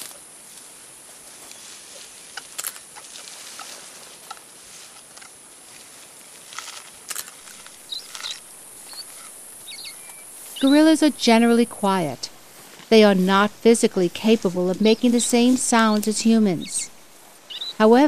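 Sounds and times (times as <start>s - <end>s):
leaves and stems crunching: 0.0s - 18.0s
steady high hiss: 0.0s - 18.0s.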